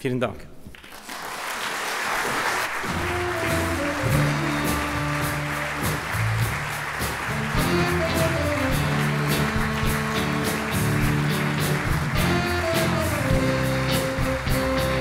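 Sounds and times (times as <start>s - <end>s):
audience applauding: 0.7s - 15.0s
music with held notes over bass: 2.9s - 15.0s.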